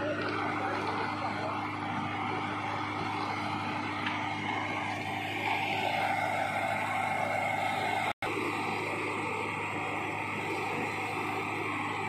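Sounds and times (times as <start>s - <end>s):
diesel engine running: 0.0s - 12.0s
high whine: 0.0s - 12.0s.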